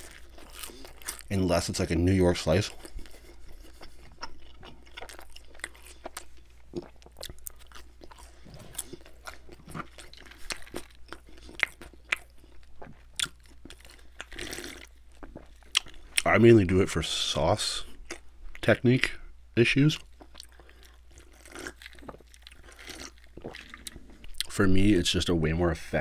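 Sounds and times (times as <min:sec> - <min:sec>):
chewing crunchy crust: 0:00.0 - 0:16.6, 0:17.8 - 0:18.7, 0:19.9 - 0:24.6.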